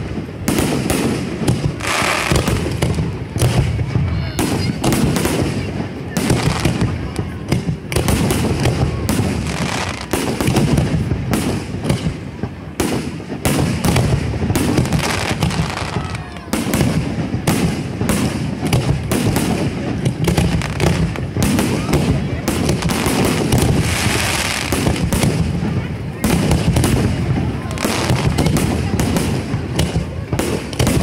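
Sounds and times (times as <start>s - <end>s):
fireworks bursts and crackling: 0.0s - 31.0s.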